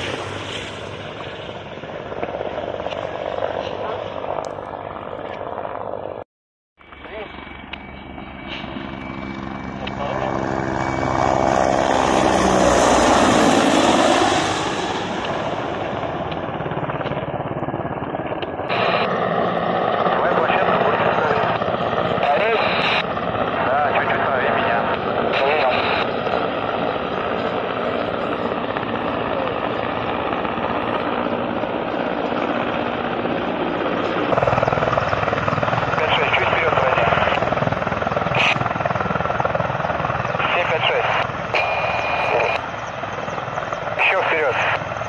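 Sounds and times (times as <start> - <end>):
helicopter flying past: 0.0 - 6.2, 6.8 - 45.0.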